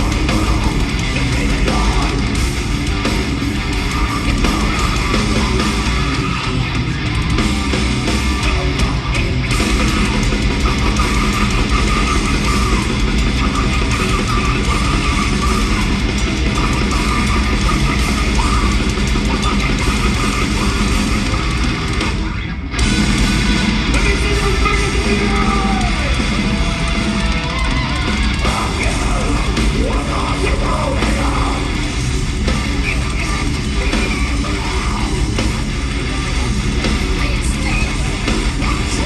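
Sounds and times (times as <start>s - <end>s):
live heavy metal band: 0.0s - 39.0s.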